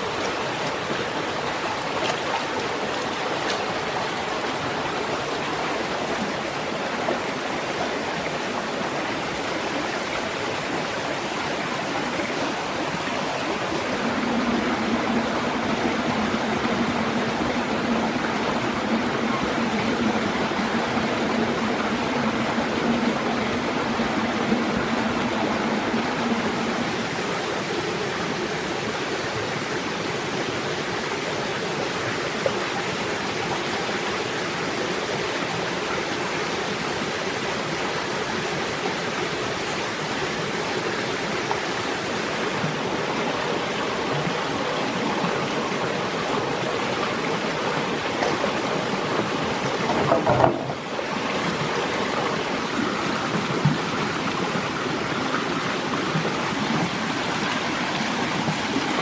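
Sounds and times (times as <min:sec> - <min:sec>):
small waterfall rushing: 0:00.0 - 0:59.0
stream running over rocks: 0:00.0 - 0:59.0.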